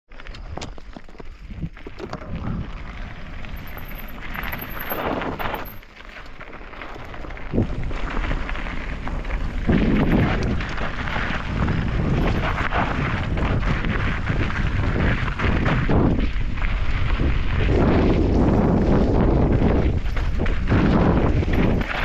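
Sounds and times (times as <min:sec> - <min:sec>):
bike tyres rattling on dirt: 0:00.1 - 0:22.0
wind buffeting microphone: 0:01.3 - 0:22.0.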